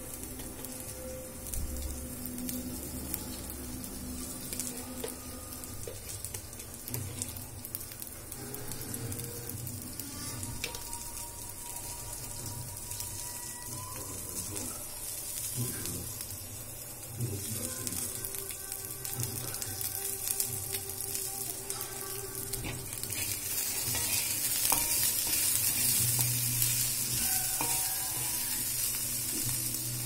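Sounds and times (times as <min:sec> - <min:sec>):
beans sizzling on a pan: 0:00.0 - 0:30.0.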